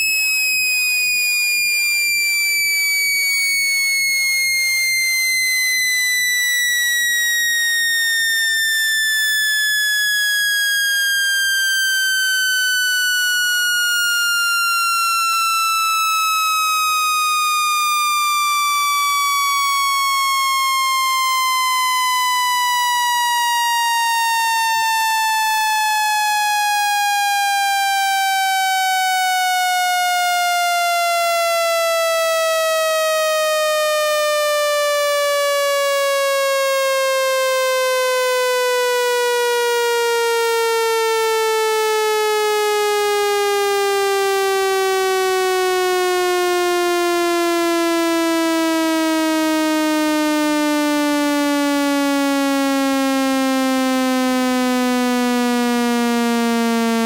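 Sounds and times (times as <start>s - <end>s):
buzzy electronic tone sliding downward: 0.0s - 57.0s.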